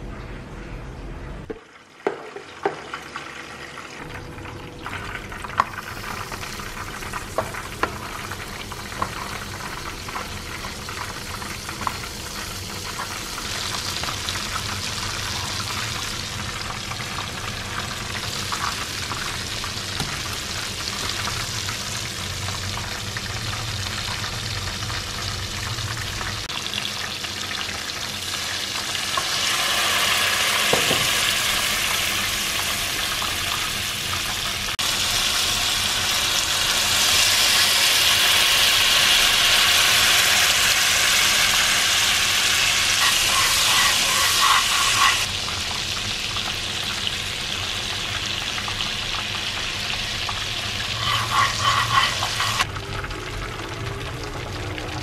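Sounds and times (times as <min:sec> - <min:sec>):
butter sizzling in a frying pan: 0:04.9 - 0:52.7.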